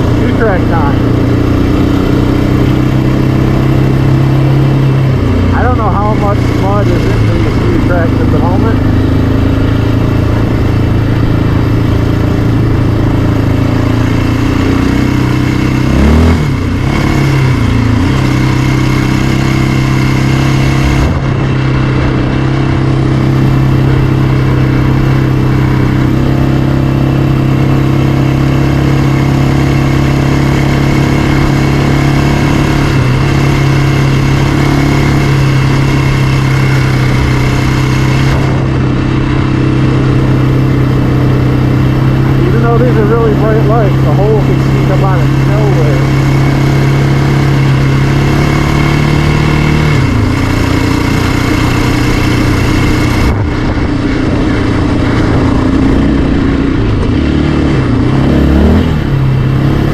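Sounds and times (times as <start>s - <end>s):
four-stroke engine running: 0.0s - 59.9s.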